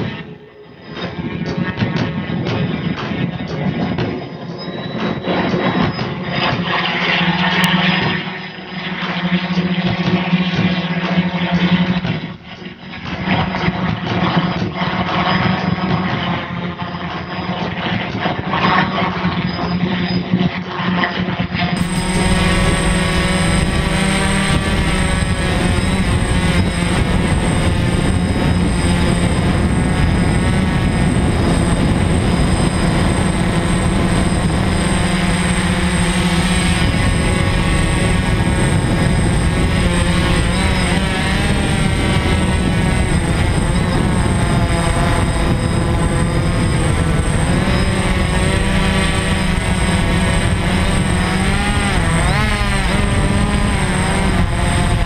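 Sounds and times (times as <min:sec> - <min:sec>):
drone motors and propellers whining: 0:00.0 - 0:55.0.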